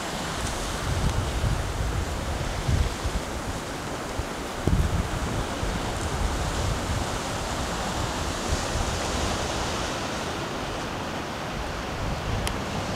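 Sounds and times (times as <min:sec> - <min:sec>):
choppy sea water: 0:00.0 - 0:12.9
wind buffeting microphone: 0:00.0 - 0:12.9.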